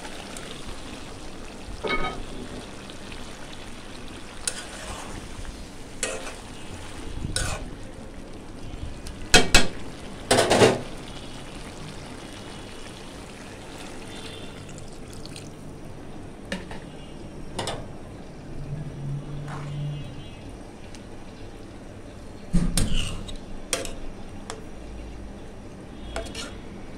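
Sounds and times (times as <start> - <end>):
faint sizzle of cooking food: 0.0 - 26.9.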